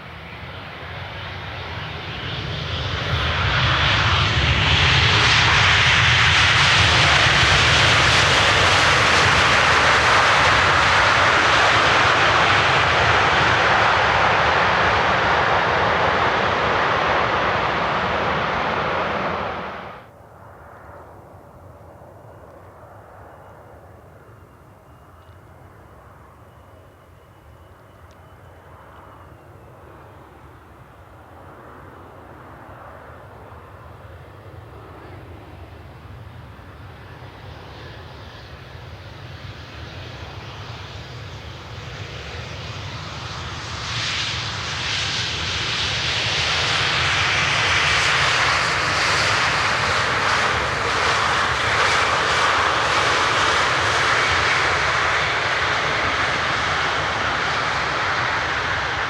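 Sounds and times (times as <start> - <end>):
jet airliner engines roaring: 0.0 - 59.0
faint high whine: 6.5 - 59.0.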